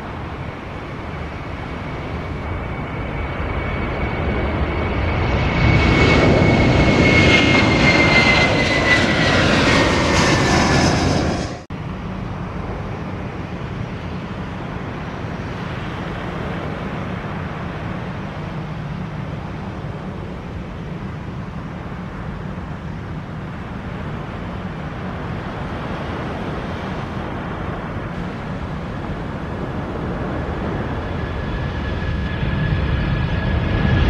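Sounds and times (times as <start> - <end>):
jet engines at takeoff: 0.0 - 34.0.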